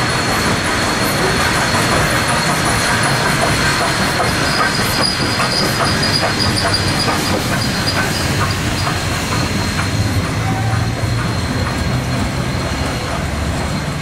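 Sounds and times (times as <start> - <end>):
train wheels clicking over track: 0.0 - 14.0.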